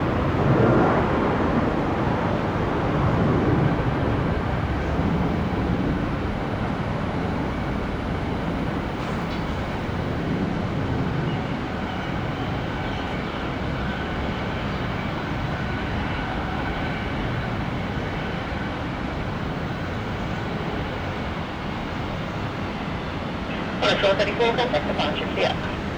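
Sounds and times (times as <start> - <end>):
jet engines roaring: 0.0 - 25.9.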